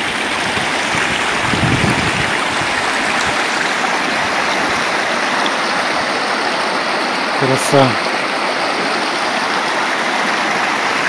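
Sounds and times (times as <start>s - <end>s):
river water rushing over stones: 0.0s - 11.0s.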